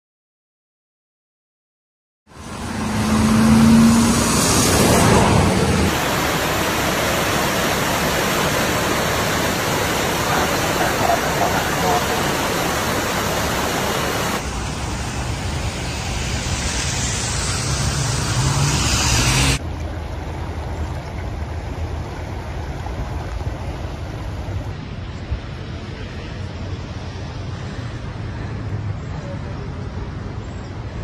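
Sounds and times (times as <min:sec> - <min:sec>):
floodwater rushing: 0:02.3 - 0:28.7.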